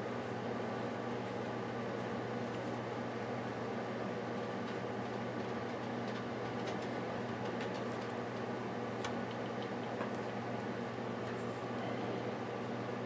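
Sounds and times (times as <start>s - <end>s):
low machine hum and hiss: 0.0s - 13.0s.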